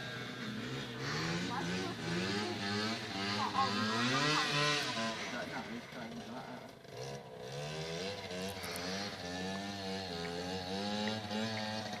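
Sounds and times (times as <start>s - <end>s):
moped engines revving: 0.0s - 12.0s.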